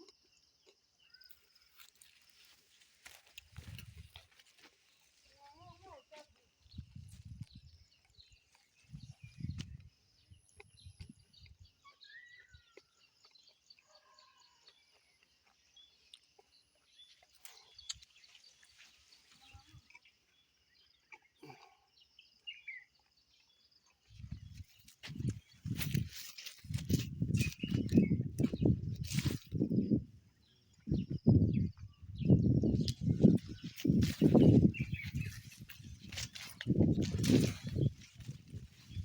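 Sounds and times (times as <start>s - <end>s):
faint birds chirping: 0.0s - 39.0s.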